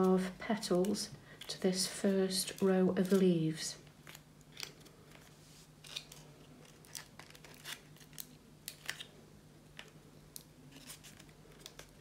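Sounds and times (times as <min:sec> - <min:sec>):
paper crackling and rustling: 0:00.0 - 0:09.1, 0:10.7 - 0:12.0
low steady hum: 0:00.0 - 0:12.0.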